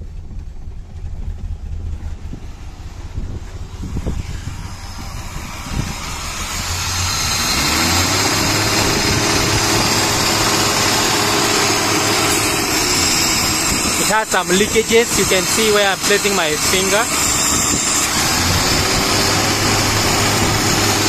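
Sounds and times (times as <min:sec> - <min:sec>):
car engine running: 0:00.0 - 0:21.0
hiss over engine: 0:01.4 - 0:21.0.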